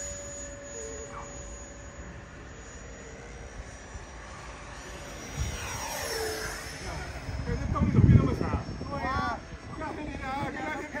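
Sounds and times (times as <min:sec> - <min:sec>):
model jet fan whine: 0:00.0 - 0:11.0.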